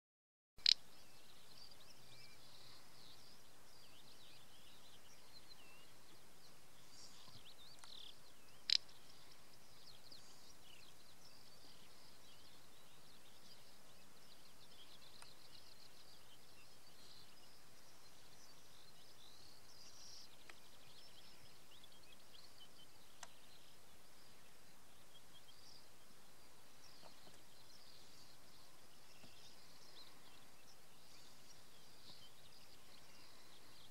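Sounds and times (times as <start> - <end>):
small birds twittering: 0.6 - 33.9.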